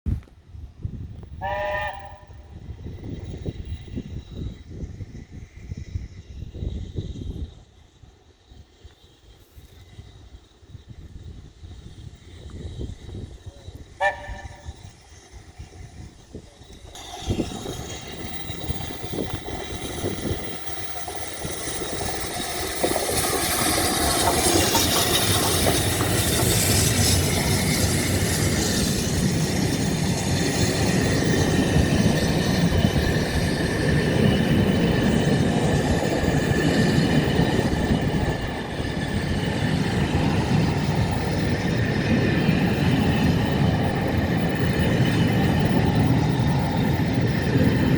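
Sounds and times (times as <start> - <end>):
train passing close by: 0.4 - 47.9.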